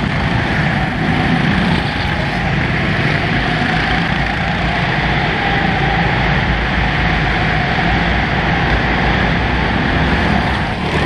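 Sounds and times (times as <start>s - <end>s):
go-kart engines droning: 0.0s - 11.0s.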